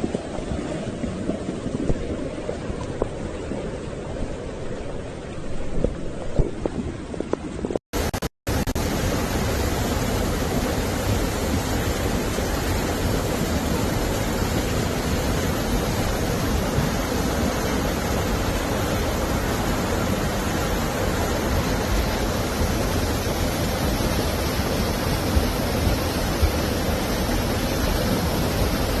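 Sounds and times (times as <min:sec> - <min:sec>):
rushing water from heavy rain: 0:00.0 - 0:07.3, 0:08.0 - 0:29.0.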